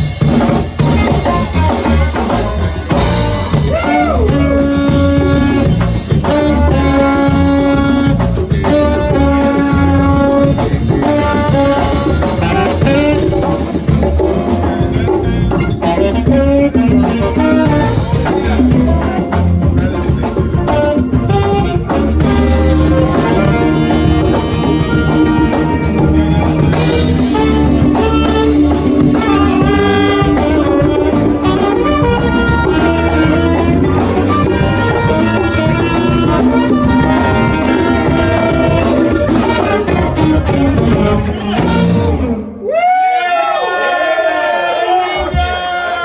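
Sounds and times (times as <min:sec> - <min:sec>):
percussion: 0:00.0 - 0:42.3
drum kit: 0:00.0 - 0:42.6
electric bass: 0:00.0 - 0:42.6
keyboards: 0:00.0 - 0:42.6
guitars: 0:00.0 - 0:42.7
saxophone and trumpet melody: 0:00.0 - 0:42.7.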